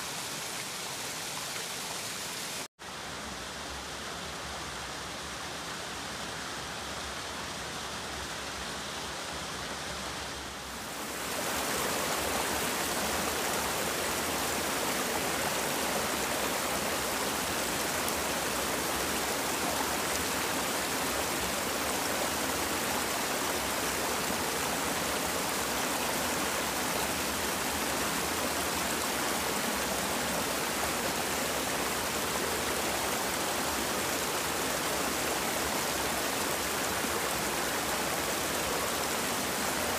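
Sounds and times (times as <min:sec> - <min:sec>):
small waterfall: 0:00.0 - 0:39.9
stream rushing over rocks: 0:00.0 - 0:39.9.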